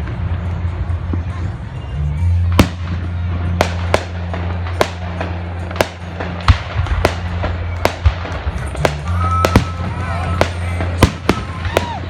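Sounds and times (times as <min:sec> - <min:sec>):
fireworks bursting: 0:02.3 - 0:12.0.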